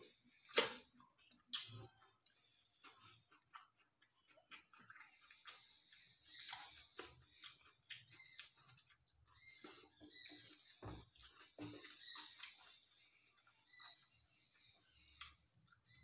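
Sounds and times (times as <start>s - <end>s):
fingers mixing rice on steel plates: 0.0s - 15.9s
chewing and lip smacks: 0.0s - 16.0s.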